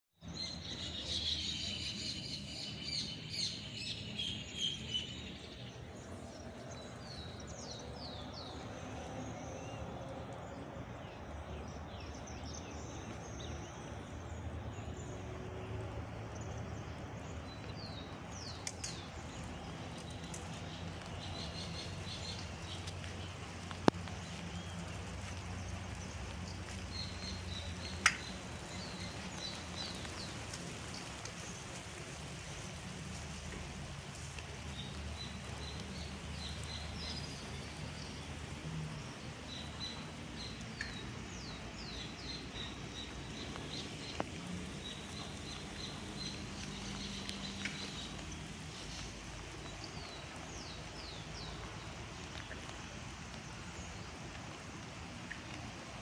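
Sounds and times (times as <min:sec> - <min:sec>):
steady outdoor hiss: 0:00.2 - 0:56.0.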